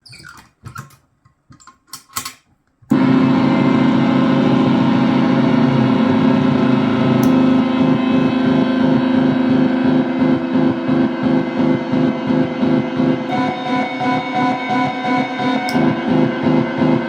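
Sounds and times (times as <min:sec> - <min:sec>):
loud buzzing drone: 0:02.9 - 0:17.0.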